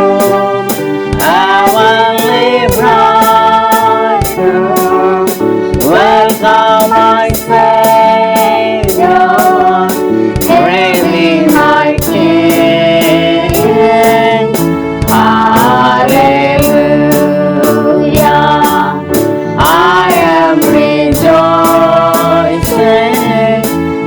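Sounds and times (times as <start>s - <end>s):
congregation singing a hymn: 0.0s - 24.0s
instrumental accompaniment: 0.0s - 24.0s
lead singer: 0.0s - 24.0s.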